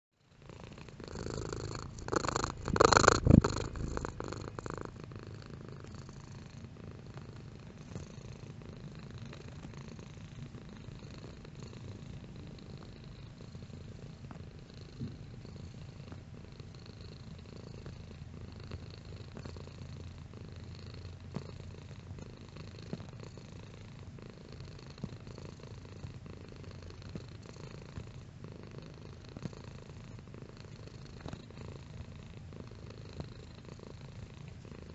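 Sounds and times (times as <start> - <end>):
cat purring: 0.2 - 34.9.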